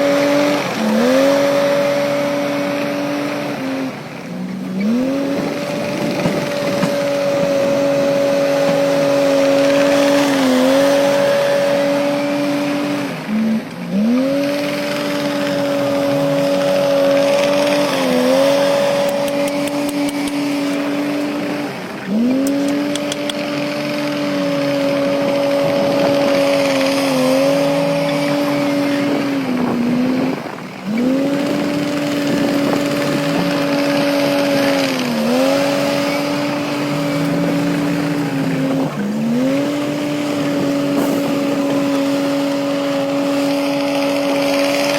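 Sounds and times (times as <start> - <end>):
construction machine engine revving: 0.0 - 44.9.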